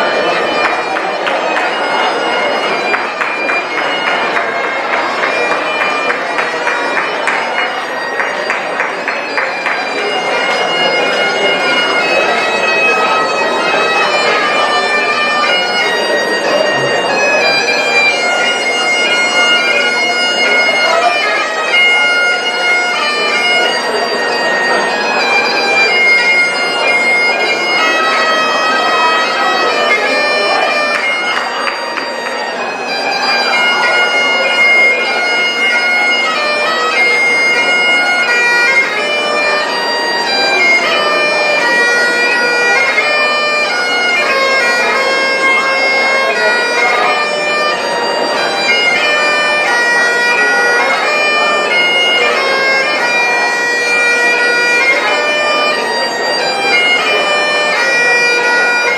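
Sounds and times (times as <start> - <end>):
bagpipes playing: 0.0 - 58.9.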